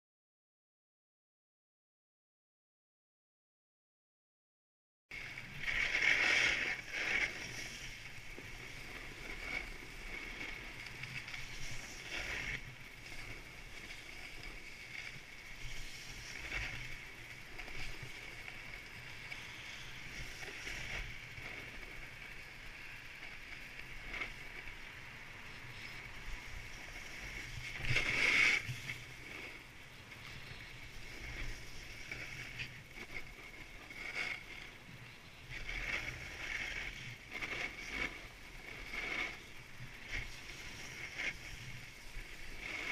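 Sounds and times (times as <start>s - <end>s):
skis scraping on packed snow: 5.1s - 42.9s.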